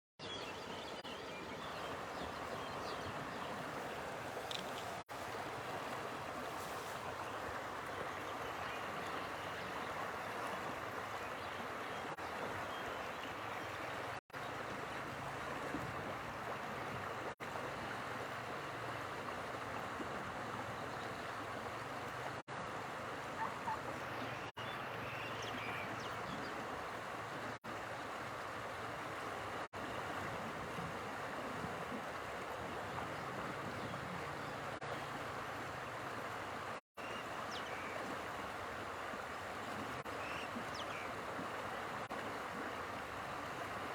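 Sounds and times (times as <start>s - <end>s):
flowing water rushing: 0.3s - 43.9s.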